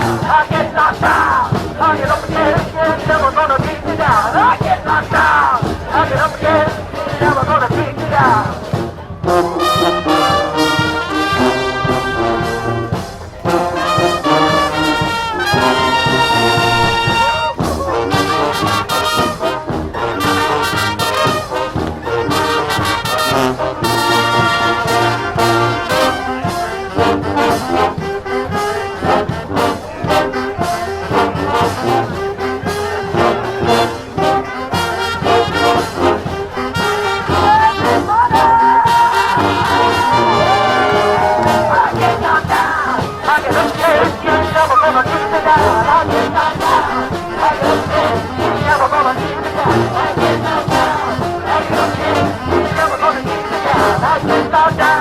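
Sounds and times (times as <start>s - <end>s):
brass instruments playing: 0.0s - 55.0s
drums keeping a beat: 0.0s - 55.0s.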